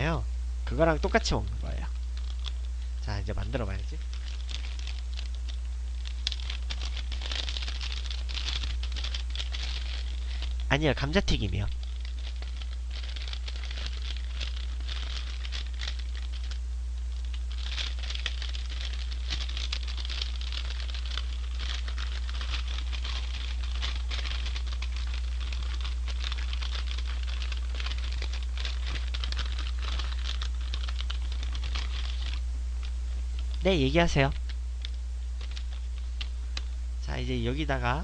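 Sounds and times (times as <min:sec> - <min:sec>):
steady low hum: 0:00.0 - 0:38.0
paper bag crinkling: 0:01.0 - 0:02.7, 0:03.3 - 0:36.7.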